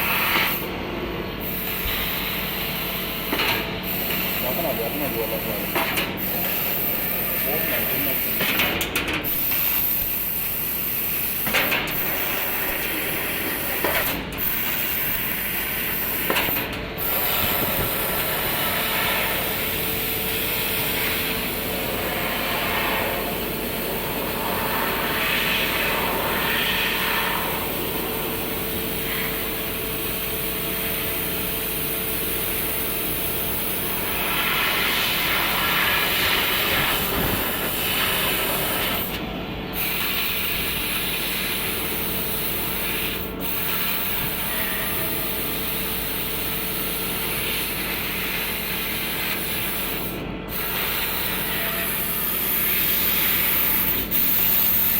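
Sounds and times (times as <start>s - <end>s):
laser cutter hiss: 0.0s - 54.9s
steady machine hum: 0.0s - 54.9s.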